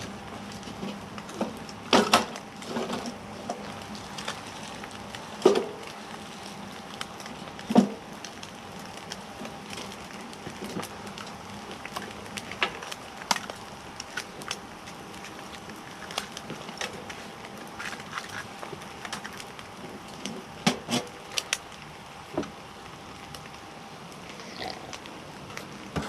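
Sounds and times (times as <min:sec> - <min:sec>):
wood stove fire crackling: 0:00.0 - 0:26.0.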